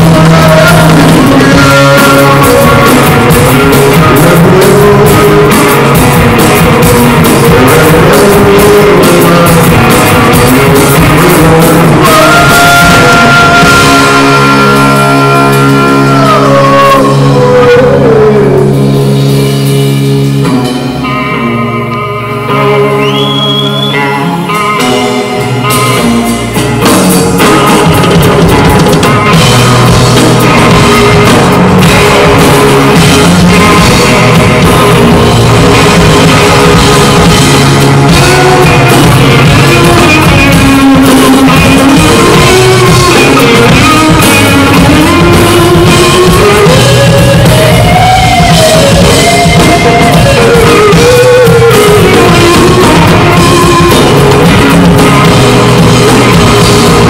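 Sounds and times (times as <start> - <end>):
drum kit: 0.0 - 57.0
live rock band: 0.0 - 57.0
sliding lead guitar line: 0.0 - 57.0.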